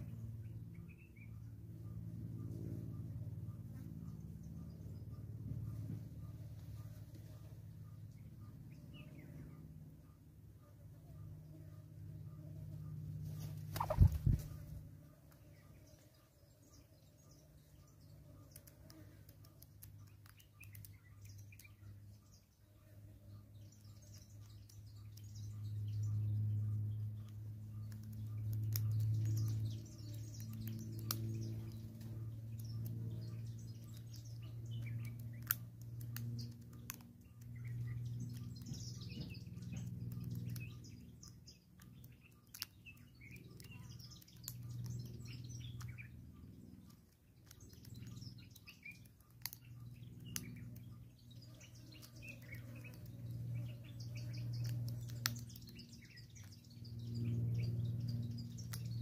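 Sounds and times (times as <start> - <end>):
low hum: 0.0 - 59.0
small birds chirping: 0.0 - 59.0.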